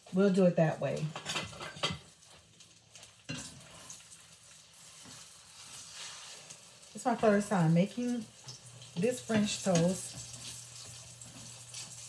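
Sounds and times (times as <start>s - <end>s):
waffles sizzling in butter: 0.0s - 12.0s.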